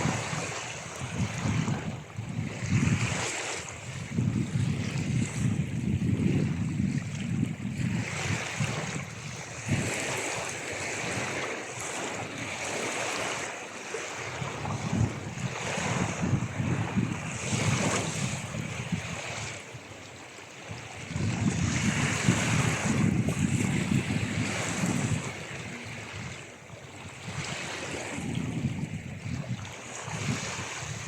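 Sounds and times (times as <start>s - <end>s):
ocean waves washing on shore: 0.0s - 31.0s.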